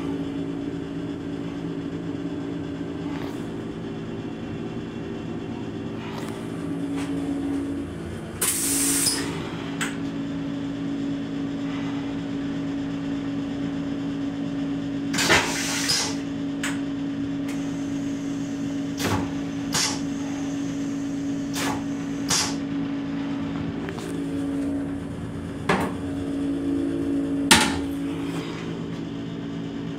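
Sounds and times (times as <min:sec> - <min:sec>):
train equipment hum: 0:00.0 - 0:14.3, 0:15.1 - 0:29.9.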